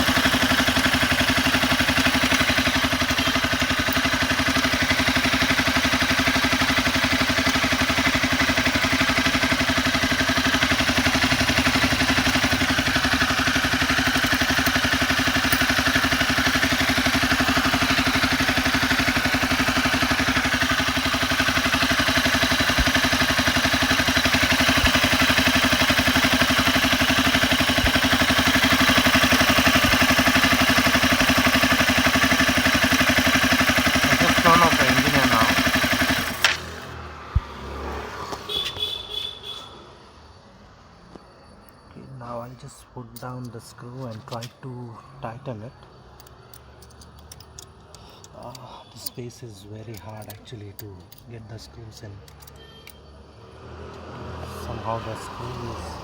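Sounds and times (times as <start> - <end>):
light engine clatter: 0.0 - 37.0, 43.0 - 44.8, 45.7 - 56.0
motorcycle engine idling: 0.0 - 40.4, 41.0 - 56.0.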